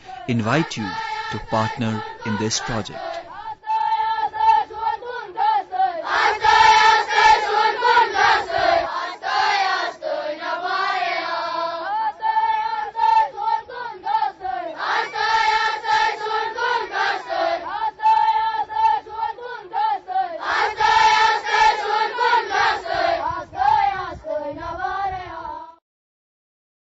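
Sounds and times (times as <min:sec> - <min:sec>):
choir singing in unison: 0:00.0 - 0:25.8.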